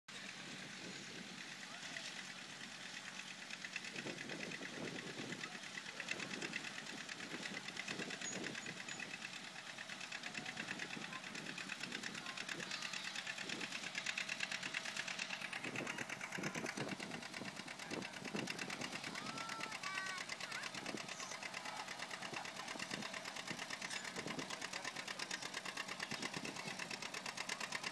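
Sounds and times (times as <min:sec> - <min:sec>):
tractor engine popping under load: 0:02.3 - 0:27.9.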